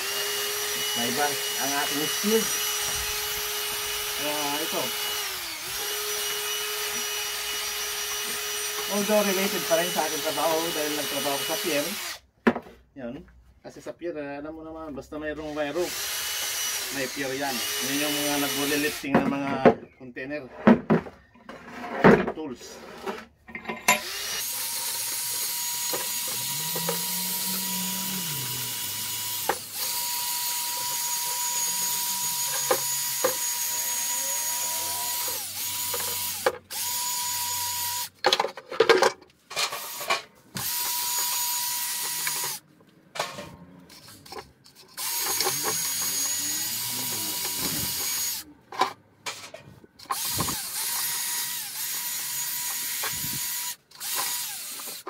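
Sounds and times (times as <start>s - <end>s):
drill spinning wire brush on metal: 0.0s - 12.2s, 15.4s - 19.1s, 22.6s - 38.2s, 39.0s - 42.6s, 43.9s - 49.0s, 50.0s - 55.0s.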